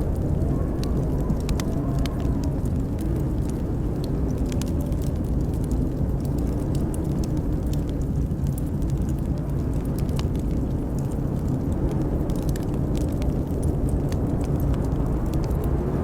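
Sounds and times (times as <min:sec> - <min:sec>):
howling blizzard wind: 0:00.0 - 0:16.0
wood fire crackling: 0:00.0 - 0:16.0.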